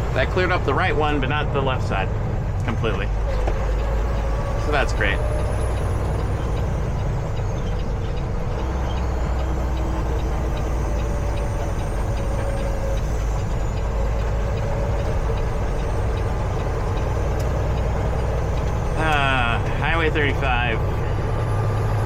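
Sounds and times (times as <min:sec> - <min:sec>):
road noise: 0:00.0 - 0:22.0
truck engine drone: 0:00.0 - 0:22.0.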